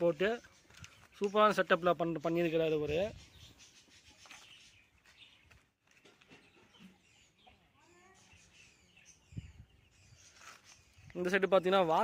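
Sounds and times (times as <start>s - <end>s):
faint bird chirps and calls: 0.0s - 12.0s.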